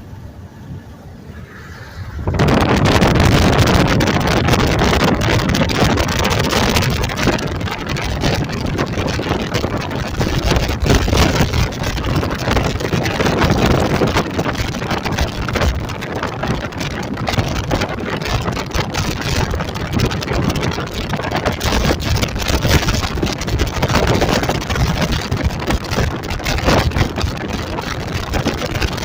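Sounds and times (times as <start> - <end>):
road and wind noise inside car: 0.0 - 29.0.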